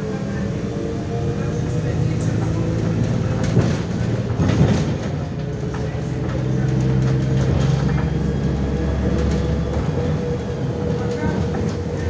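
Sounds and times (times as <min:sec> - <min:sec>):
bus diesel engine droning: 0:00.0 - 0:12.0
road noise: 0:00.0 - 0:12.0.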